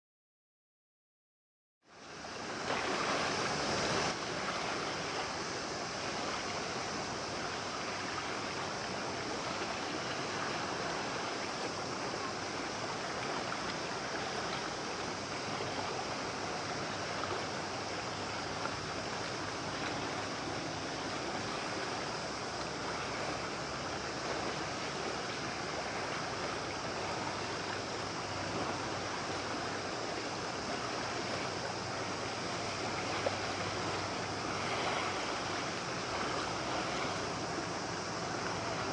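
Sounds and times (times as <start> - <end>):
motorboat passing fast: 2.0 - 38.9
sea waves rushing: 2.0 - 38.9.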